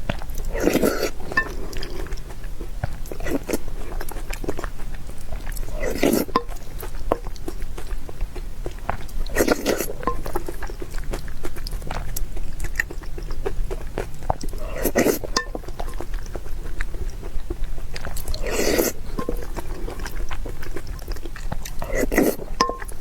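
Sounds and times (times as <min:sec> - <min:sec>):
wet chewing with mouth clicks: 0:00.0 - 0:23.0.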